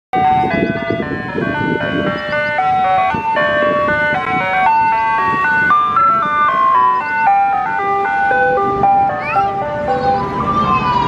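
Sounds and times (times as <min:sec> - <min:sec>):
ice cream truck chime melody: 0:00.2 - 0:11.0
low truck rumble: 0:00.2 - 0:11.0.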